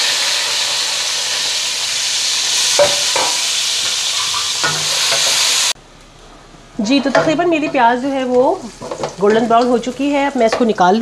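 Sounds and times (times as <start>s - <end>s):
onions sizzling in hot oil: 0.0s - 5.8s, 6.8s - 10.9s.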